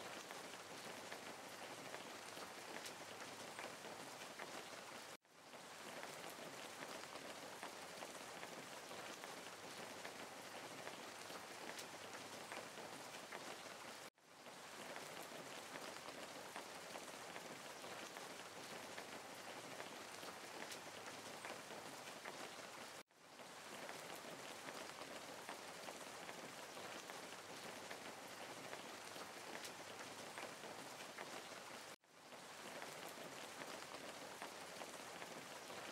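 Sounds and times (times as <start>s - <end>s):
quiet rain falling: 0.0s - 35.9s.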